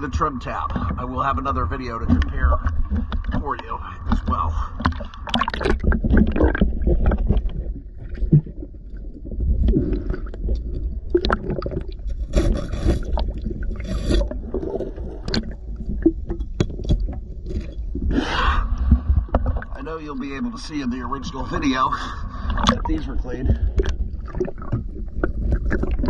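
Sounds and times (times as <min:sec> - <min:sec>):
underwater bubbling of exhaled bubbles: 0:00.0 - 0:26.0.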